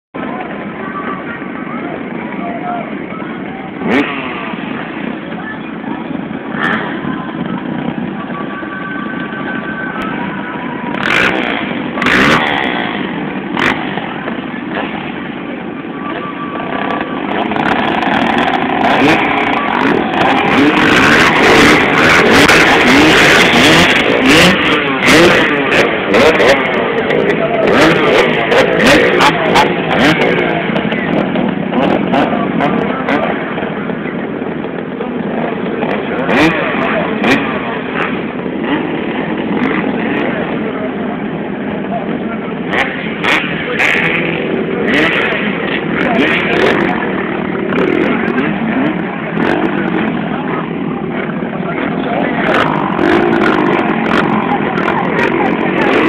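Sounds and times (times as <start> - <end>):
motorcycle engines revving: 0.1 - 56.0.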